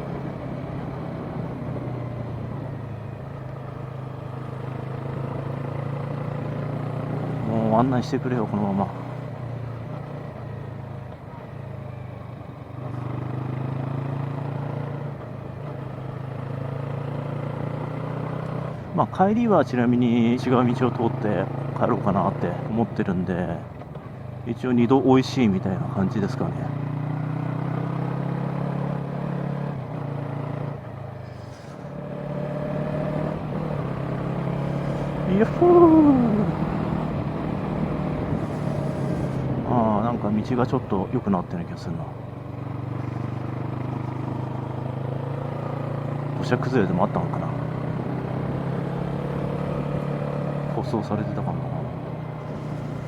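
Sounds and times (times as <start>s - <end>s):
motorcycle engine running: 0.0s - 22.8s, 23.7s - 53.0s.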